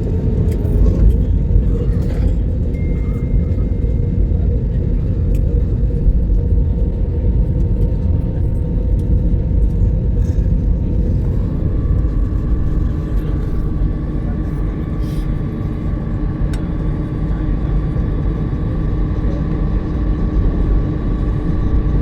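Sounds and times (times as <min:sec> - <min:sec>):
jet engines and airflow rumble: 0:00.0 - 0:22.0
faint whine: 0:00.4 - 0:22.0.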